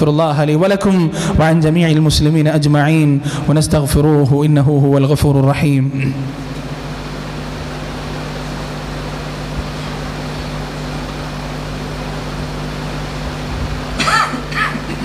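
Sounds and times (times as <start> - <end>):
sound system hum and hiss: 0.0 - 15.0.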